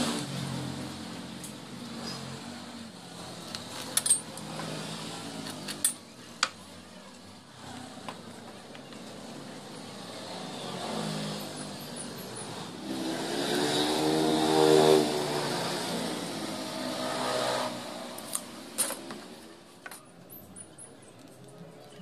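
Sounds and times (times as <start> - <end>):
motor vehicle engine: 0.0 - 19.8.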